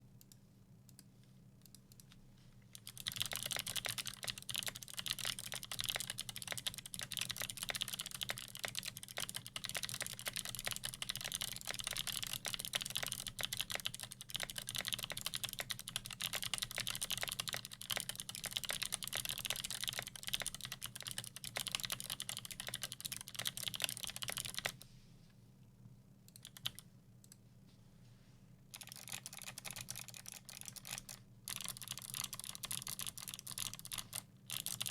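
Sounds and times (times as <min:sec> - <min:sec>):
faint low hum: 0:00.0 - 0:34.9
fast typing on mechanical keyboard: 0:02.8 - 0:24.8, 0:26.4 - 0:26.8, 0:28.7 - 0:34.9.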